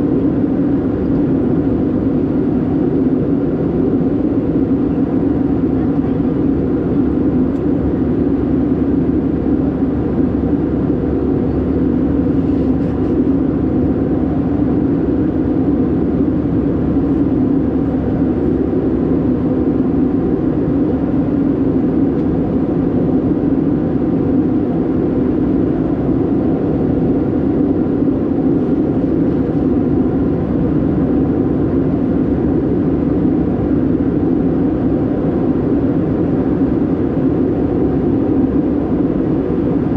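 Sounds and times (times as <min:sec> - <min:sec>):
aircraft cabin engine drone: 0:00.0 - 0:39.9
airflow over fuselage: 0:00.0 - 0:39.9.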